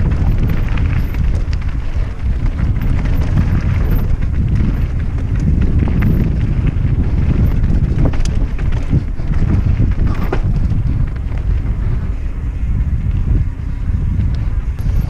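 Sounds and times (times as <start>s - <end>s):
bike knocks and rattles: 0.0s - 12.1s
tyres rumbling on trail: 0.0s - 15.0s
wind noise on microphone: 0.0s - 15.0s.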